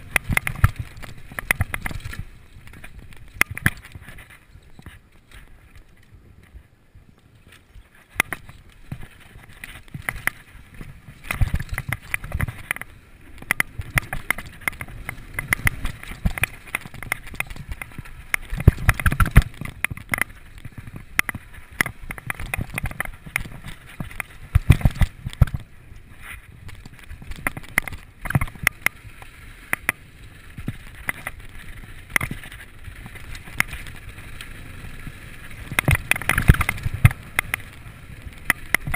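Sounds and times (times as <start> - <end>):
bike chain and frame clattering: 0.0 - 6.6, 7.4 - 38.9
bike tyres on loose dirt: 0.0 - 38.9.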